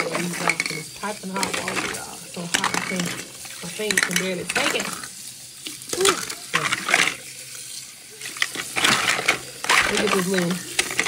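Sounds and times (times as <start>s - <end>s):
plastic toy food clattering: 0.0s - 5.1s, 5.9s - 7.3s, 8.3s - 11.0s.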